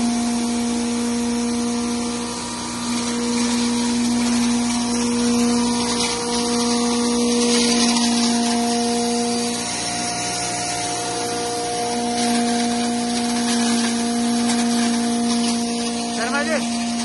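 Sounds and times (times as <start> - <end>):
electric grinder humming and whining: 0.0 - 17.0.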